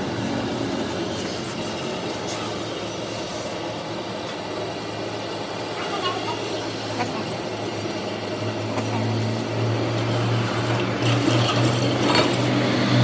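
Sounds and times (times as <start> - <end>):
noisy mechanical wash: 0.0 - 13.0.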